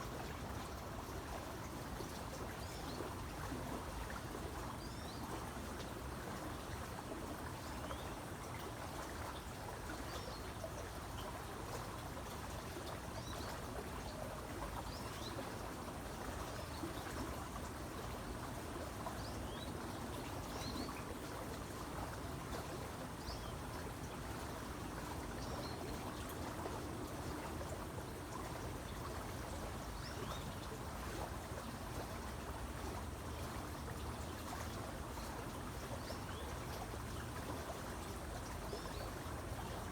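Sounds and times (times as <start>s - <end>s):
creek babbling over stones: 0.0s - 39.9s.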